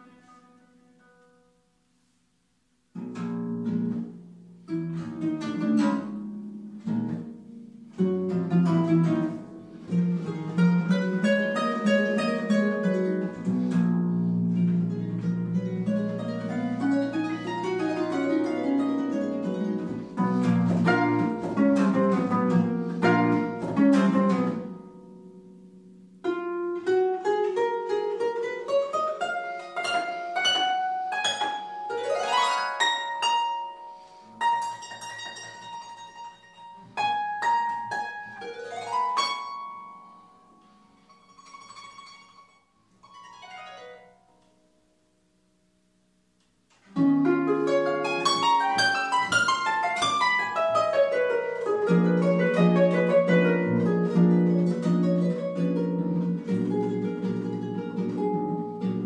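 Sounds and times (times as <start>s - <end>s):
harp playing: 2.9s - 45.0s, 46.8s - 59.0s.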